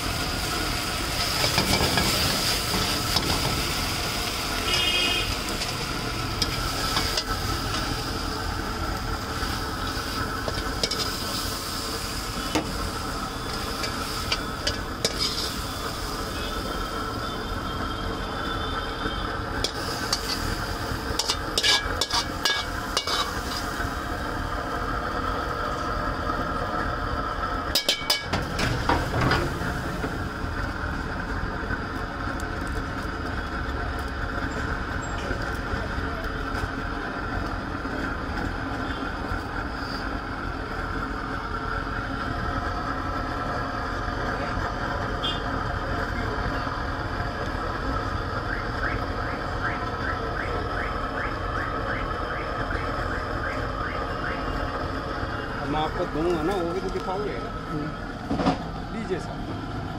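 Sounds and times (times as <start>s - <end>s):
street background hum: 0.0s - 59.9s.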